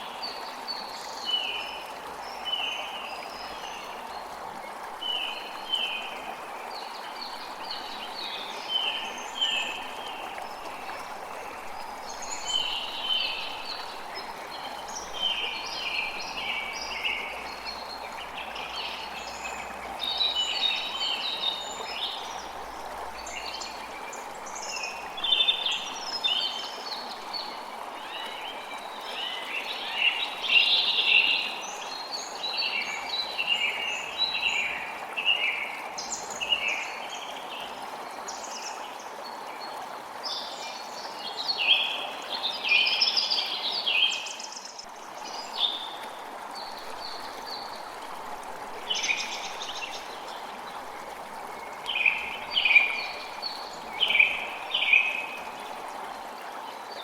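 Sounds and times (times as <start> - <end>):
creek flowing: 0.0 - 57.0.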